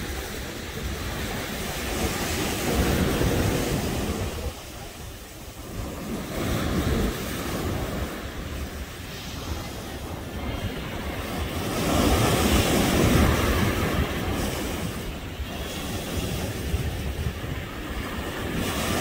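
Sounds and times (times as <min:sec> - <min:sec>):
ocean surf on a beach: 0:00.0 - 0:19.0
wind buffeting the microphone: 0:00.0 - 0:19.0.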